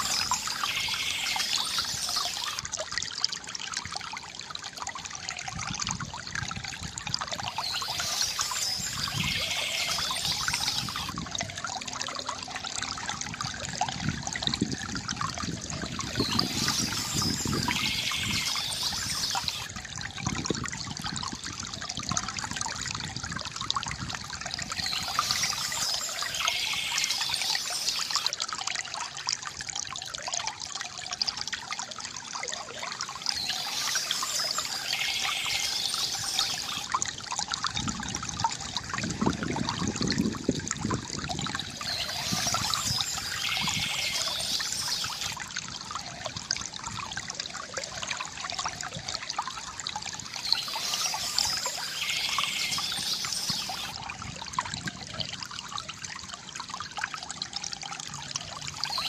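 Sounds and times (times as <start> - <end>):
bright high water sound: 0.0 - 59.0
deep gush of water: 0.0 - 59.0
stream water trickling: 0.0 - 59.0.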